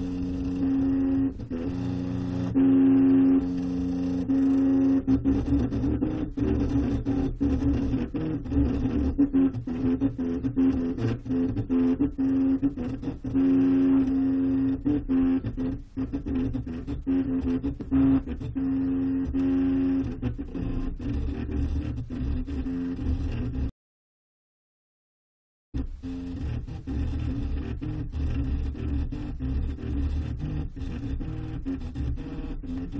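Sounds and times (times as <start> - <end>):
stepper motor whine: 0.0 - 23.7, 25.8 - 32.9.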